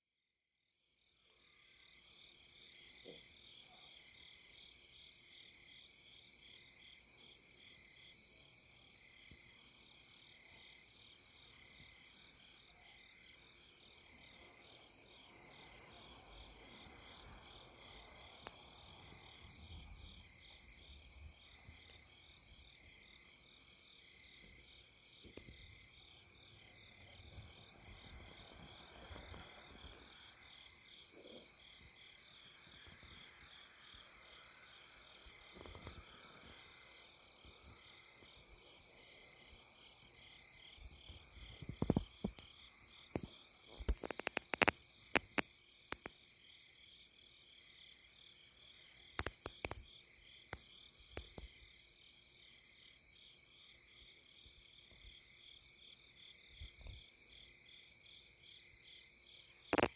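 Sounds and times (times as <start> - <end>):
high continuous insect trill: 0.6 - 59.9
insect chirping in pulses: 0.8 - 59.9.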